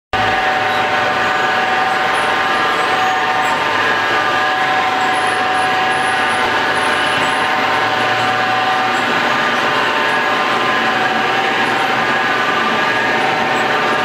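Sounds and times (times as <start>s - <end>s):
machinery drone with whining tones: 0.2s - 14.0s.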